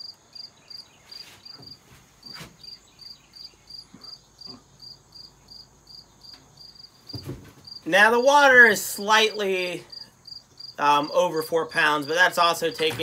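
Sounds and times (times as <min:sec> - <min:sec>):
insect chirping: 0:00.0 - 0:01.8, 0:02.6 - 0:13.0.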